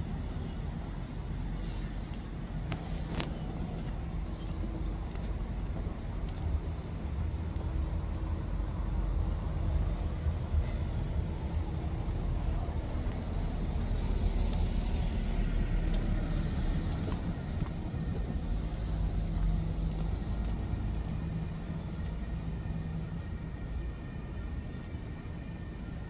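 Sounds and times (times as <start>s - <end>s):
passing car traffic rumble: 0.0s - 24.4s
faint engine hum: 0.0s - 26.0s.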